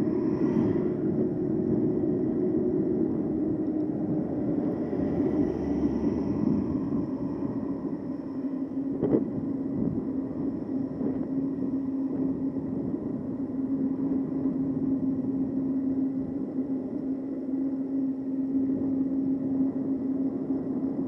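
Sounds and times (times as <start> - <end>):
electric bike motor hum: 0.0 - 21.0
wind and tyre rumble: 0.0 - 21.0.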